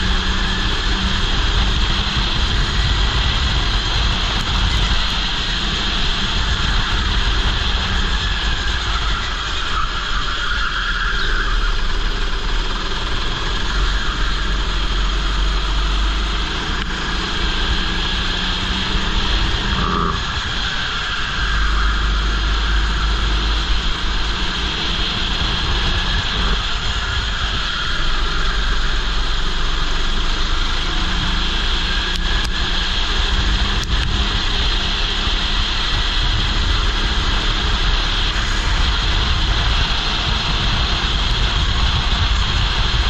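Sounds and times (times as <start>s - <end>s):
go-kart engine running: 0.0s - 43.0s
wind rumble on microphone: 0.0s - 43.0s.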